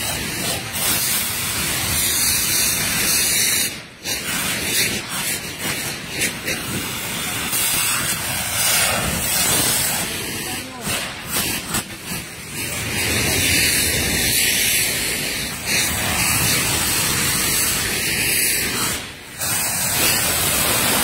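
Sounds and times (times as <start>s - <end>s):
rockets burning with rushing hiss: 0.0s - 21.0s.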